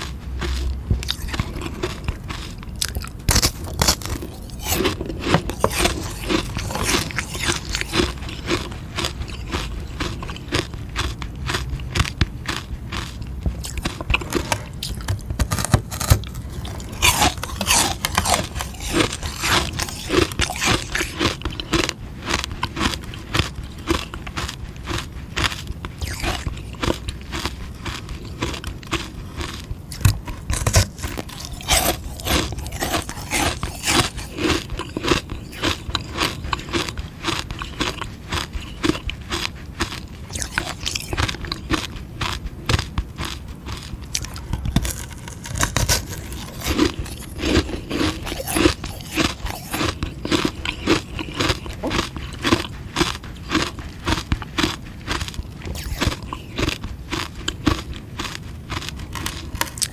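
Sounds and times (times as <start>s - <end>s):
ice being chewed crunching: 0.0s - 59.9s.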